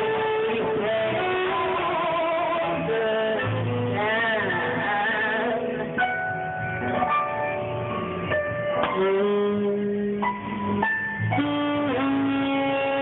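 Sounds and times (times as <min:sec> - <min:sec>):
guitar accompaniment: 0:00.0 - 0:13.0
saxophone with vibrato: 0:00.0 - 0:13.0.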